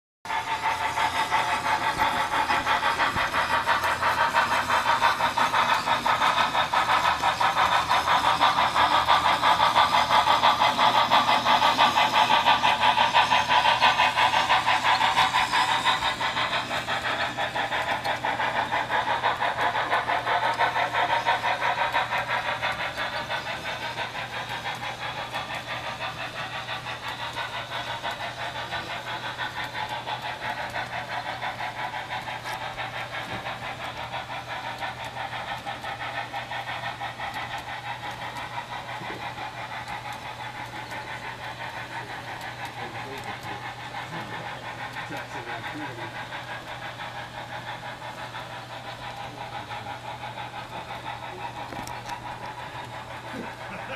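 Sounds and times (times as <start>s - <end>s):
model steam locomotive chuffing: 0.3s - 53.9s.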